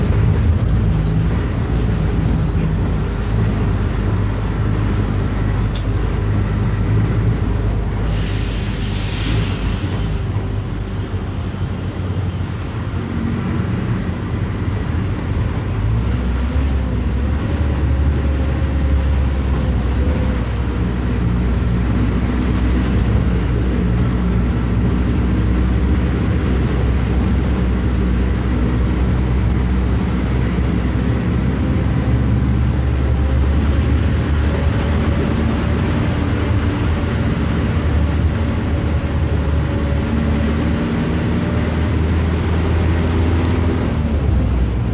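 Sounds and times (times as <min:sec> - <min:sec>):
bus diesel engine rumbling: 0:00.0 - 0:44.9.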